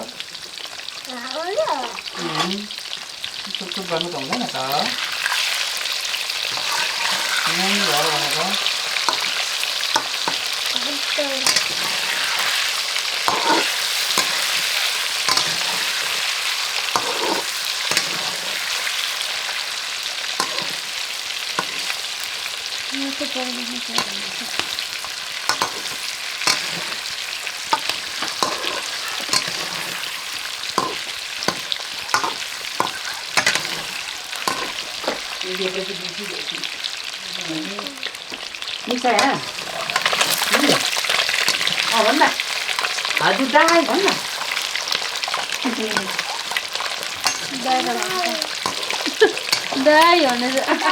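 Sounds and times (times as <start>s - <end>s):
food sizzling in hot oil: 0.0s - 50.9s
metal ladle scraping a pan: 2.0s - 2.8s, 4.3s - 22.6s, 23.9s - 35.4s, 39.1s - 50.9s.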